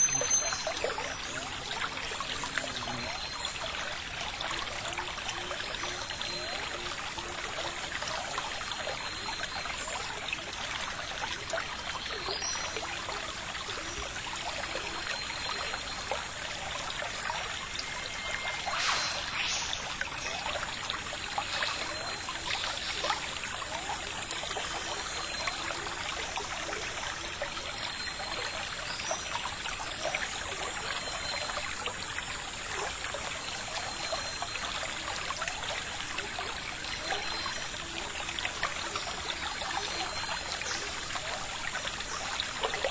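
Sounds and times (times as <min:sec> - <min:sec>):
water trickling: 0:00.0 - 0:42.9.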